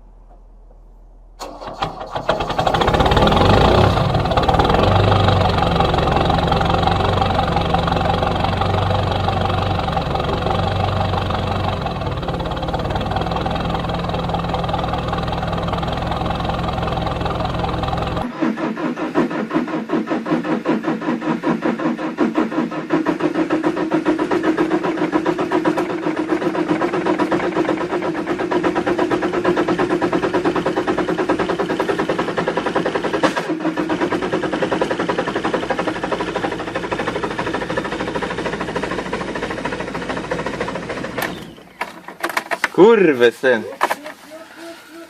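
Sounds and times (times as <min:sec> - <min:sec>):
diesel engine idling: 0:00.0 - 0:42.2.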